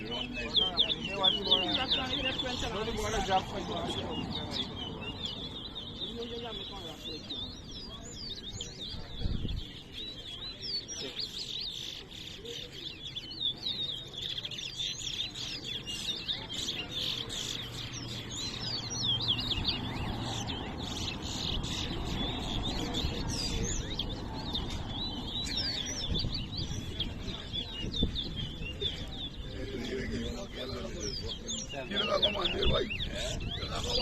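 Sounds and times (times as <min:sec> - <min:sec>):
caged finches singing: 0:00.0 - 0:34.0
low background murmur: 0:00.0 - 0:34.0.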